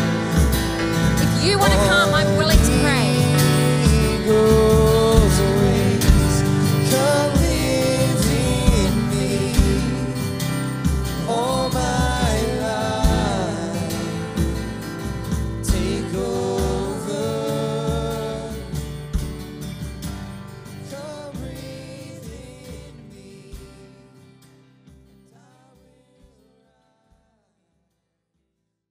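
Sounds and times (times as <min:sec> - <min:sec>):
worship song with band: 0:00.0 - 0:26.4.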